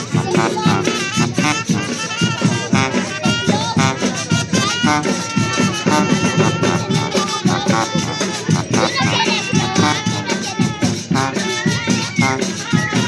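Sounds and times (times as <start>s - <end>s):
brass holding notes: 0.0s - 13.0s
quick steady drumbeat: 0.0s - 13.0s.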